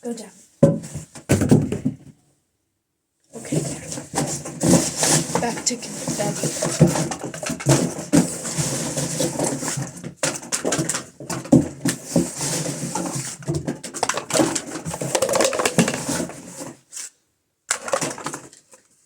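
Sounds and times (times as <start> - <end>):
cardboard tubes and paper rustling: 3.3 - 19.0.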